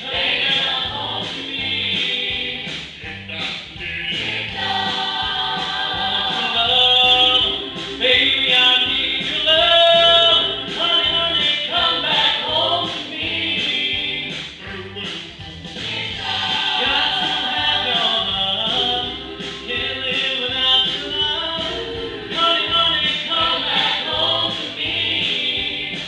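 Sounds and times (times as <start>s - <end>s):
vocal group singing close harmony: 0.0s - 15.2s, 15.8s - 26.0s
band playing a steady beat: 0.0s - 26.0s.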